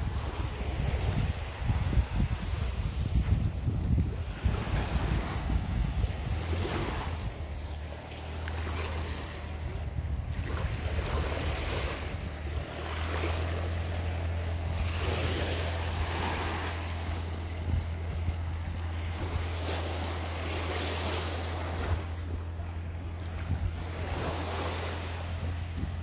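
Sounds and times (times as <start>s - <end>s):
small waves washing onto beach: 0.0s - 26.0s
steady low hum: 0.0s - 26.0s.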